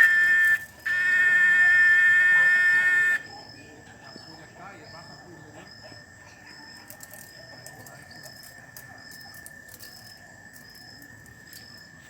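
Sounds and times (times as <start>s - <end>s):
insect chirps: 0.0s - 12.0s
insects droning: 0.0s - 12.0s.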